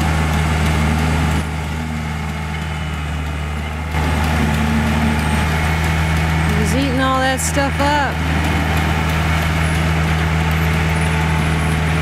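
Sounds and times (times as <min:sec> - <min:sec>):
engine low drone: 0:00.0 - 0:12.0.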